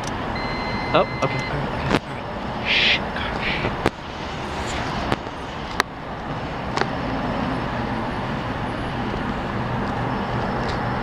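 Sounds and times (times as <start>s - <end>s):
road vehicle hum: 0.0s - 11.0s.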